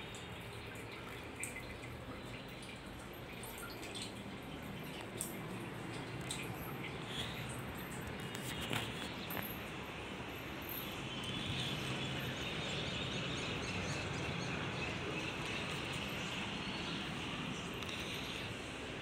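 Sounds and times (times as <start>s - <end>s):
outdoor ambient noise: 0.0s - 19.0s.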